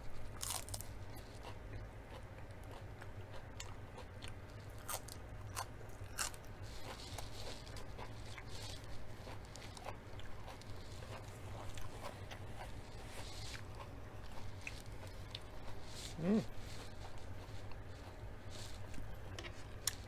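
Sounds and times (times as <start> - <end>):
person chewing crisp food: 0.1 - 20.0.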